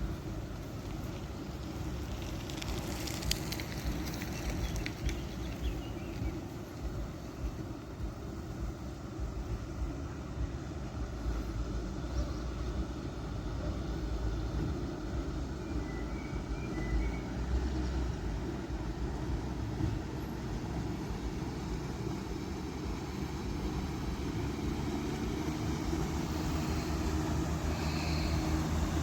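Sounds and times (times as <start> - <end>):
boat motor hum: 0.0 - 29.0.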